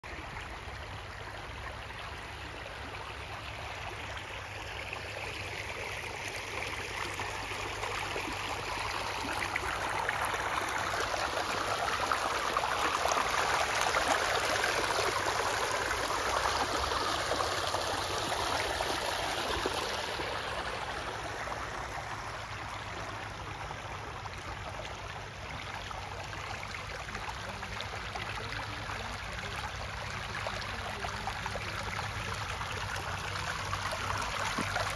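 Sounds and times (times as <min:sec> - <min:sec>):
water babbling over rocks: 0:00.0 - 0:34.9.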